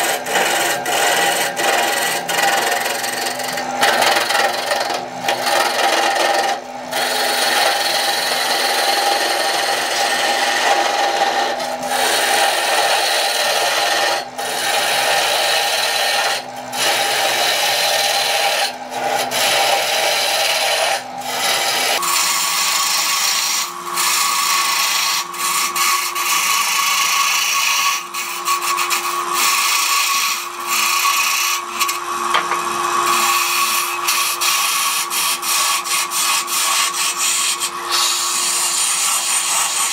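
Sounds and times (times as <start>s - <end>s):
gouge scraping wood on lathe: 0.0s - 39.9s
lathe motor hum: 0.0s - 39.9s.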